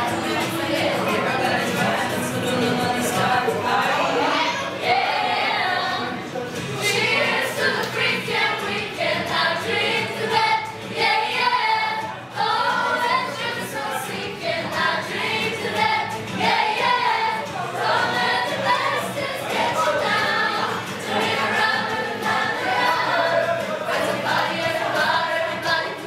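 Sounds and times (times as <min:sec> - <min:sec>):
young voices singing together: 0:00.0 - 0:26.0.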